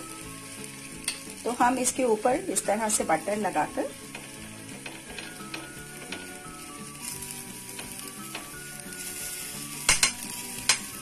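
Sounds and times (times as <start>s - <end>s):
flatbread sizzling in butter: 0.0s - 11.0s.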